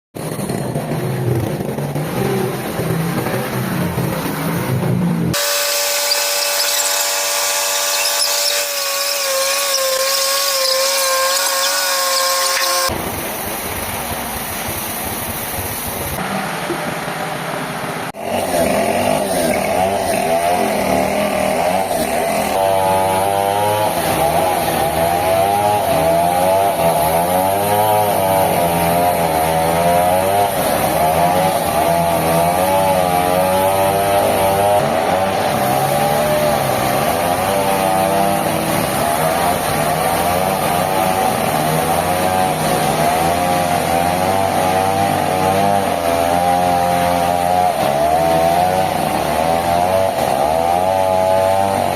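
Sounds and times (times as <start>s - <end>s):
saw engine running: 0.2s - 13.6s, 16.1s - 51.9s.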